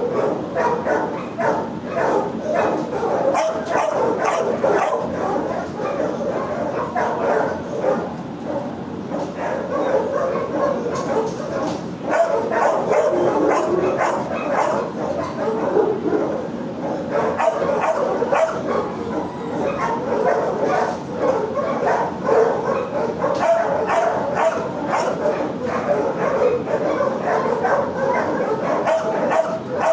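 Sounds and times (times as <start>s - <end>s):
dogs barking and yipping: 0.0s - 29.9s.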